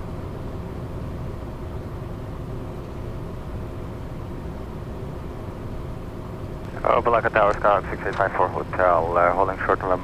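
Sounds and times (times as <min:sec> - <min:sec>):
jet cockpit engine rumble: 0:00.0 - 0:10.0.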